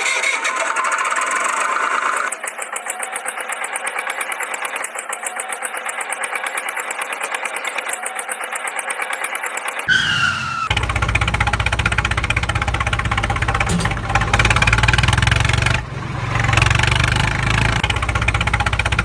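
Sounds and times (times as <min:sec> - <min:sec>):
toy tractor engine sound: 0:00.0 - 0:19.0.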